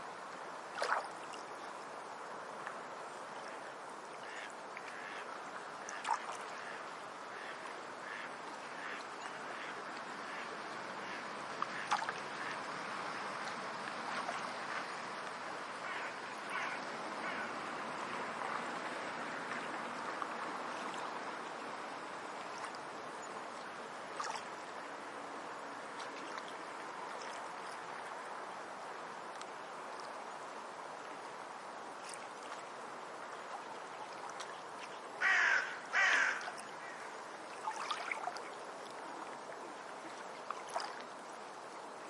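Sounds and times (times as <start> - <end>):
flowing water rushing: 0.0 - 42.0.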